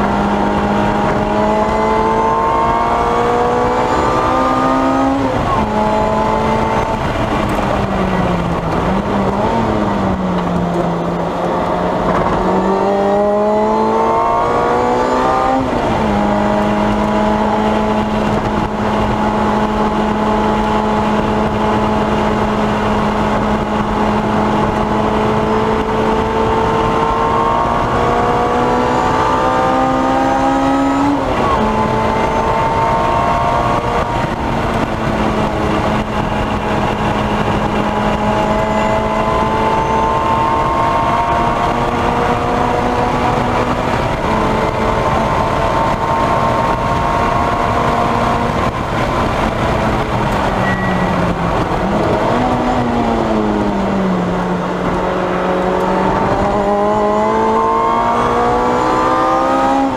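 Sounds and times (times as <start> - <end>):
car engine revving hard: 0.0 - 59.9
road and wind noise: 0.0 - 59.9.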